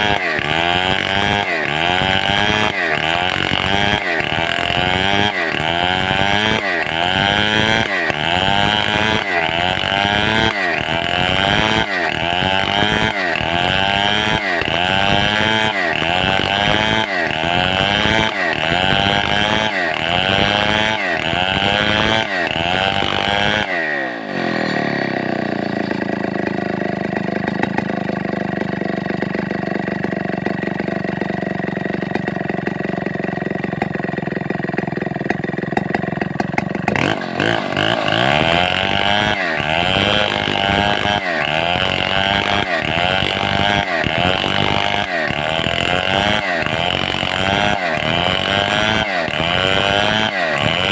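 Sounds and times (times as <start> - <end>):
chainsaw revving and idling: 0.0 - 50.9.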